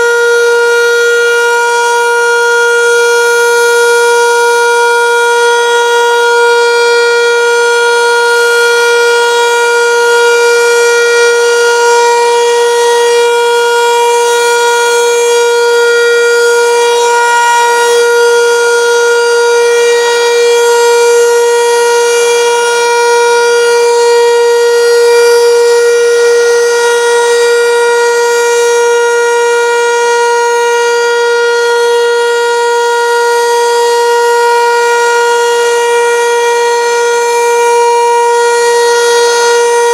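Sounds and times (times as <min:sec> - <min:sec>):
motor siren steady tone: 0:00.0 - 0:39.9.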